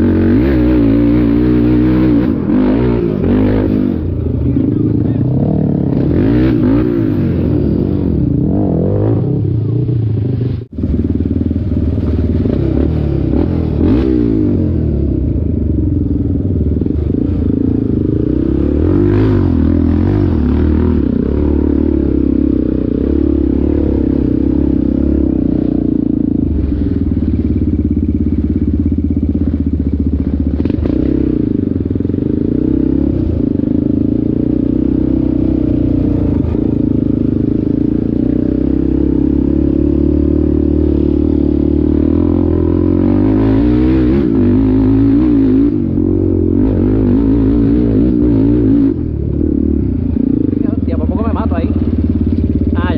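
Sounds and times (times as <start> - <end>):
atv engine revving: 0.0 - 52.9.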